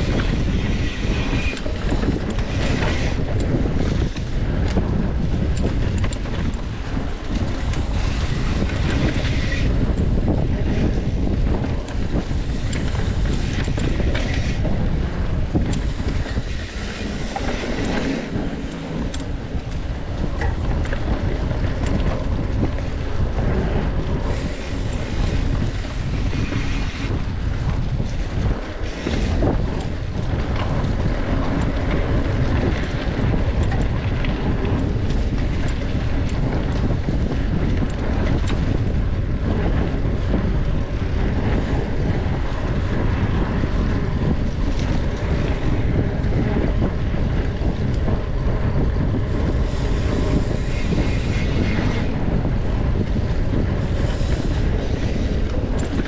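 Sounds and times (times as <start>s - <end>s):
small clicks and rattles: 0.0s - 56.0s
wind buffeting microphone: 0.0s - 56.0s.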